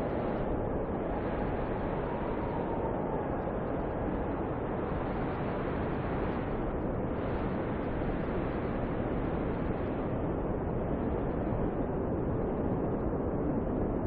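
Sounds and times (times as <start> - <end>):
snowstorm wind blowing: 0.0 - 14.0.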